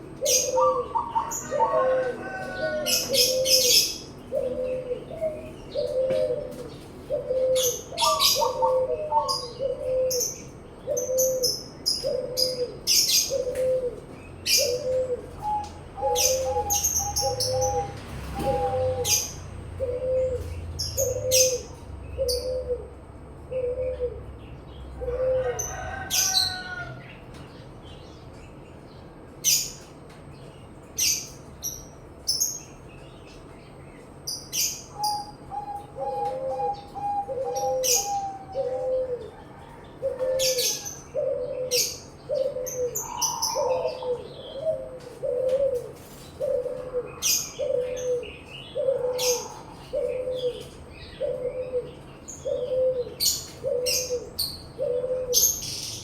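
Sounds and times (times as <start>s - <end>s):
dove cooing: 0.0s - 27.1s, 34.2s - 56.0s
small birds chirping: 0.0s - 56.0s.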